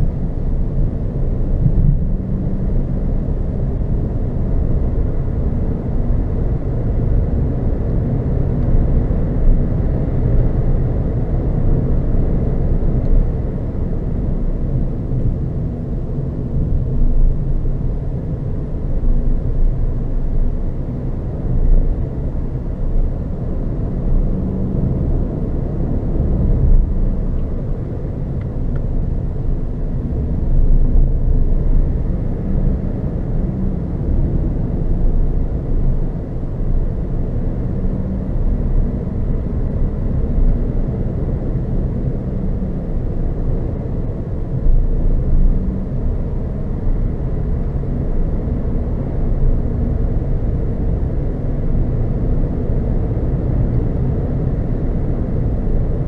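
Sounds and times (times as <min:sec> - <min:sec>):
car tyre and road noise: 0:00.0 - 0:56.0.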